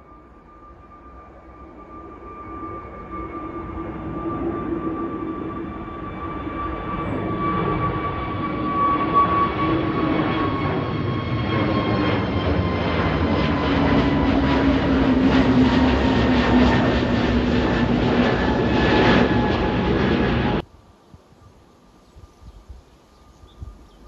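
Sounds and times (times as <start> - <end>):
airliner engines at takeoff: 0.0 - 24.0.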